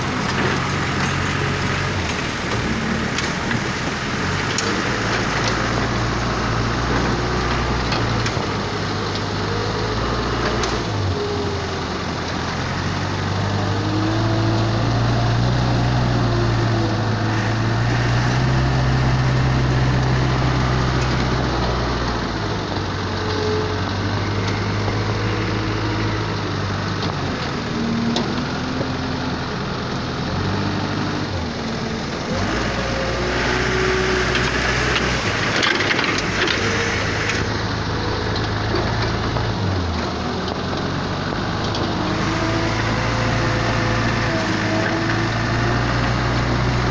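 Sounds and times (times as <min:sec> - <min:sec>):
wheel loader diesel engine: 0:00.0 - 0:46.9.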